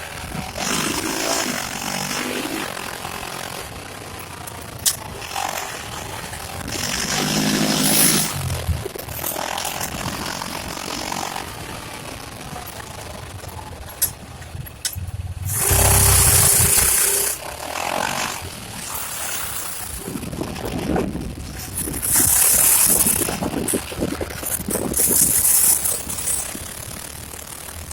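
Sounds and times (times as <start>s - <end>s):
loud bursts of noise: 0.0s - 27.9s
off-road vehicle engine running: 0.0s - 27.9s.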